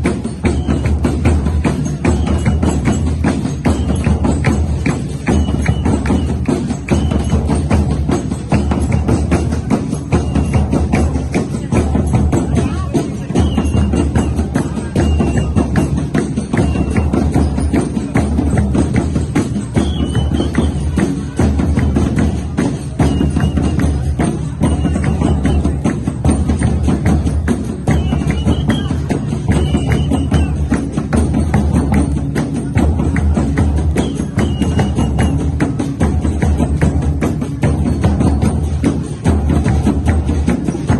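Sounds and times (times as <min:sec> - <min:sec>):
pounding drumbeat: 0:00.0 - 0:40.9
rattling tambourine-like strokes: 0:00.0 - 0:40.9.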